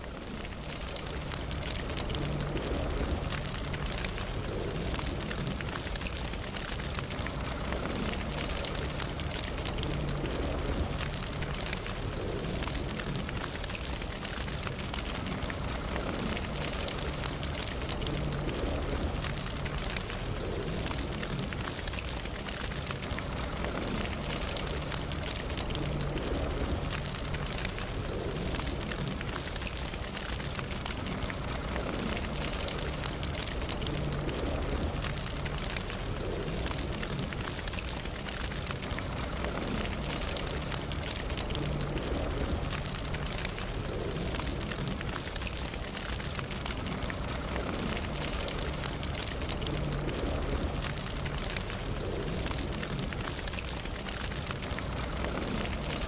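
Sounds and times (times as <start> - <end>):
burning wood crackling and popping: 0.0 - 56.0
low rush of flames: 0.0 - 56.0.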